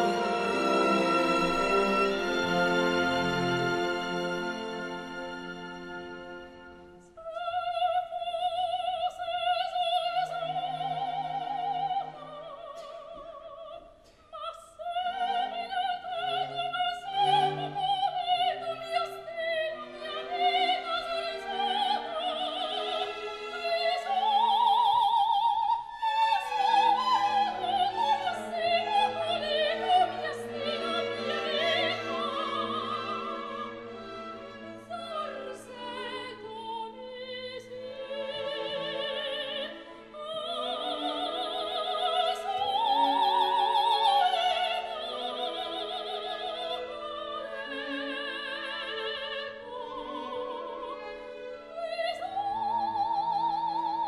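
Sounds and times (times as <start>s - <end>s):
opera voices singing with vibrato: 0.0s - 54.0s
orchestra: 0.0s - 54.0s.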